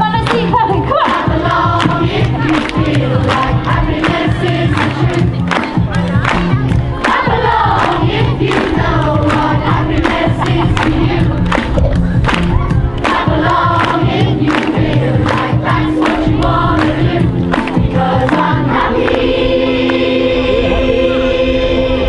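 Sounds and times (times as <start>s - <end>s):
steady beat: 0.8s - 20.2s
choir singing: 0.9s - 5.4s, 6.9s - 11.8s, 13.0s - 22.0s.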